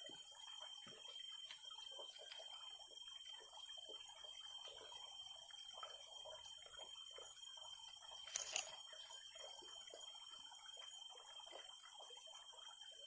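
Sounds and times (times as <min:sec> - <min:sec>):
faint high hum: 0:00.0 - 0:13.0.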